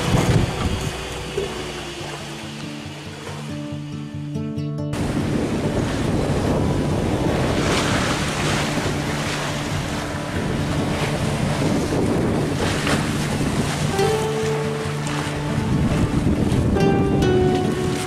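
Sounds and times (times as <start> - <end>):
wind buffeting microphone: 0.0 - 2.3, 5.0 - 18.0
faint background music: 0.0 - 18.0
waves rushing along hull: 0.0 - 18.0.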